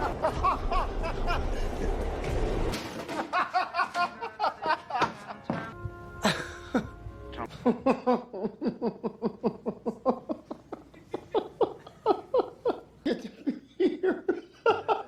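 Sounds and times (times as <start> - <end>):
person laughing hard: 0.0 - 2.0, 3.1 - 5.4, 6.2 - 15.0.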